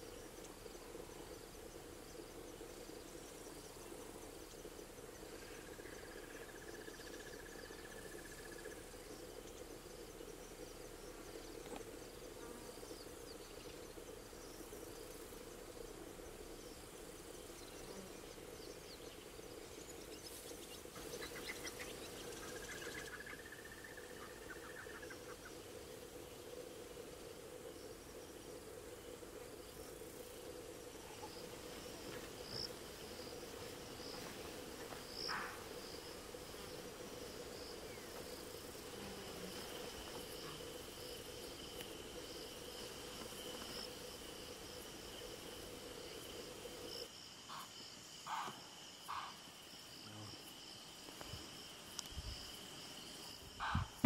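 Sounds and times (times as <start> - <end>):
crickets chirring: 0.0 - 54.0
lower insect tone: 0.0 - 54.0.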